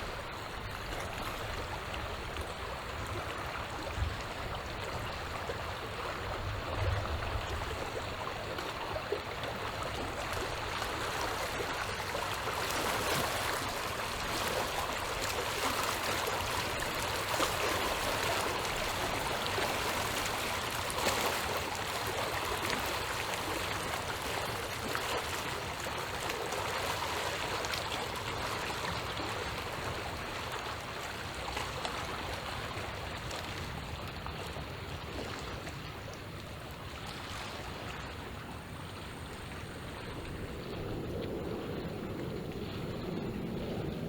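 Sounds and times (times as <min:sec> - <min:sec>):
small waves lapping at shore: 0:00.0 - 0:44.0.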